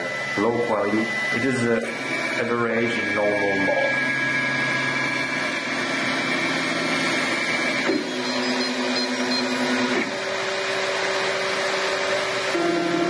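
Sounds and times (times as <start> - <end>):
mechanical whir: 0.0 - 13.0
stepper motors whining: 0.0 - 13.0.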